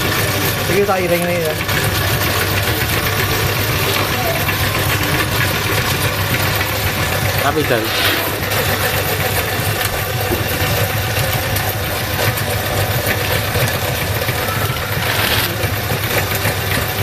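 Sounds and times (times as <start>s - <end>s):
meat grinder humming: 0.0s - 17.0s.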